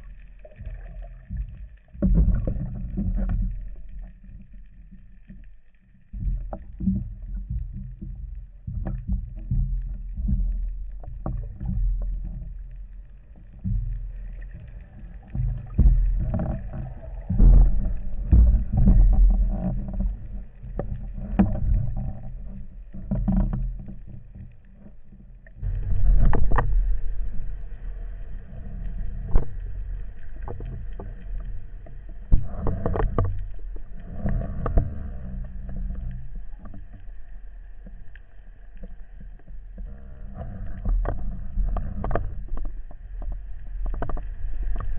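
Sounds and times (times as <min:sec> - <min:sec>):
low rumble: 0:00.0 - 0:44.9
muffled water sloshing underwater: 0:00.0 - 0:44.9.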